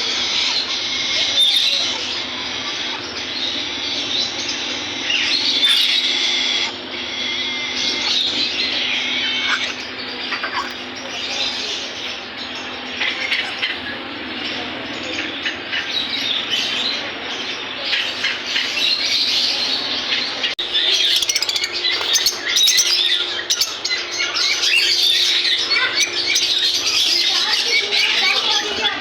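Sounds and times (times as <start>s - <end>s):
faint steady hum: 0.0s - 29.0s
parrots chirping and squawking: 0.0s - 29.0s.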